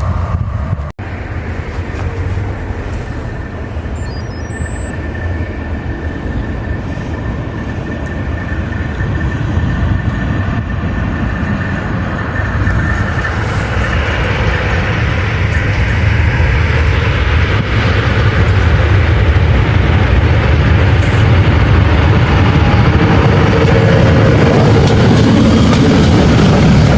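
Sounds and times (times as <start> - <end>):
thin steady whine: 0.0 - 26.9
train rumbling: 0.0 - 26.9.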